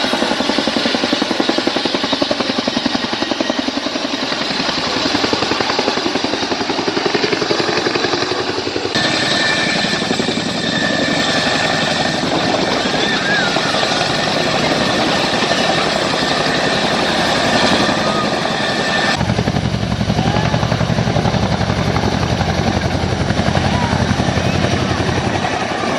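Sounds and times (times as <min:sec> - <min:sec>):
helicopter rotors beating: 0:00.0 - 0:25.9
turbine engines whining: 0:00.0 - 0:25.9.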